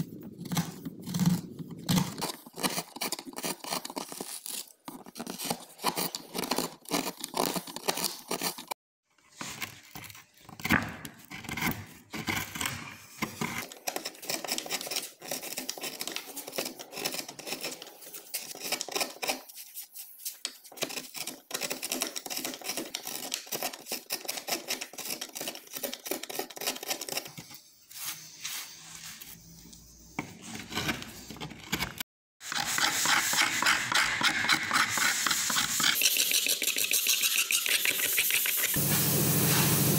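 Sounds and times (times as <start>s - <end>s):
knife scraping wood: 0.0s - 38.9s.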